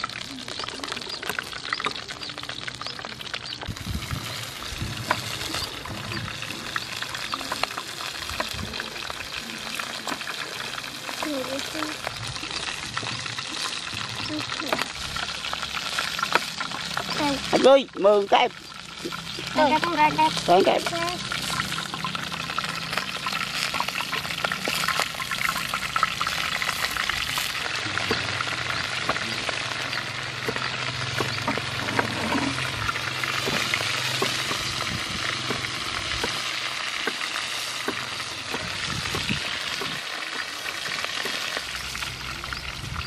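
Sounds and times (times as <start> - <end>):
constant crackling hiss: 0.0 - 43.0.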